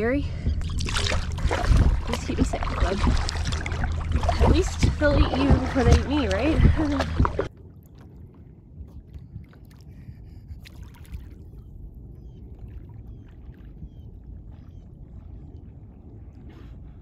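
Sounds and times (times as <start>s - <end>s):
low rumble of wind and water: 0.0s - 17.0s.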